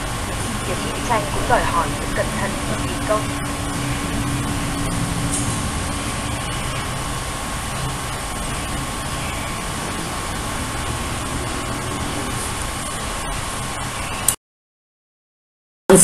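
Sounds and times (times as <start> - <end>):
steady hiss and rumble: 0.0 - 14.4.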